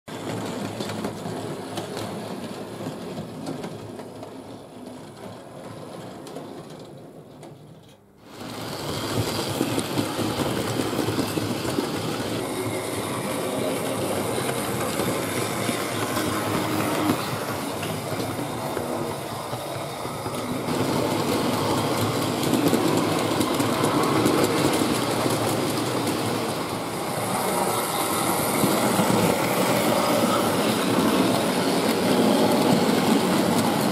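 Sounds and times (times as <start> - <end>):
model trains whirring: 0.1 - 33.9
wheels clicking over rail joints: 0.1 - 33.9.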